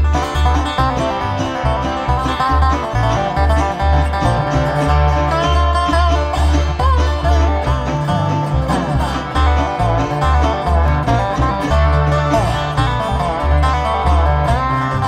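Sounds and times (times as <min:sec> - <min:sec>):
live bluegrass band playing: 0:00.0 - 0:15.0.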